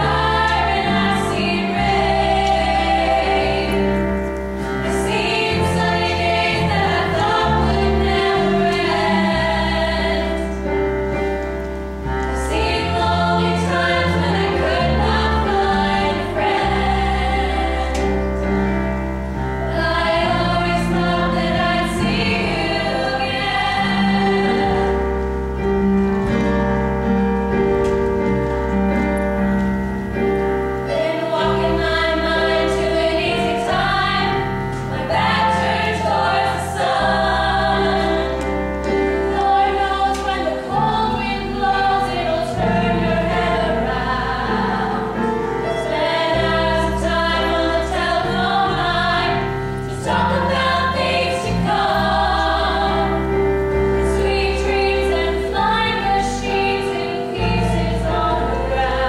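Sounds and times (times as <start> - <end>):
voices singing together: 0.0 - 26.4, 30.8 - 59.0
instrumental accompaniment: 0.0 - 59.0.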